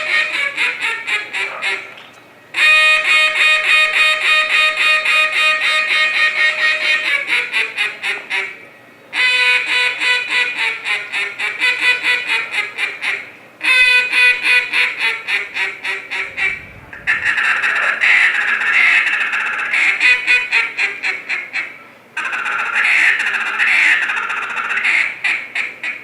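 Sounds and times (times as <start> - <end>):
duck call quacks: 0.0 - 26.0.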